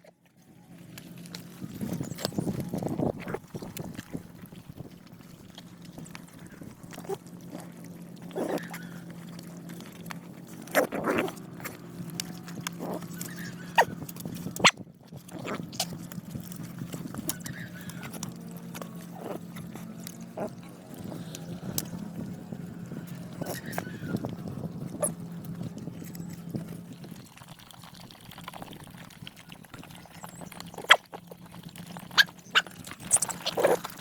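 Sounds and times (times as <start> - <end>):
dogs chewing and lapping: 0.0 - 34.0
low hum: 0.1 - 34.0.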